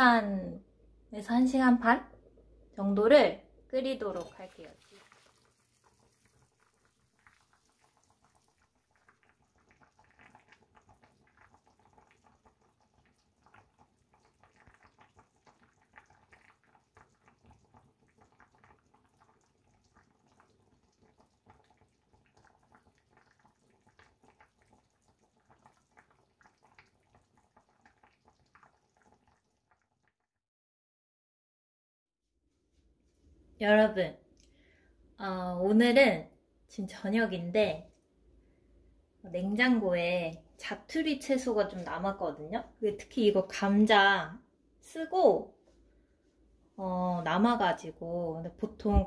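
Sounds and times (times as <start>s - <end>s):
stew bubbling and popping: 0.7s - 30.4s, 37.4s - 44.9s, 45.5s - 49.0s.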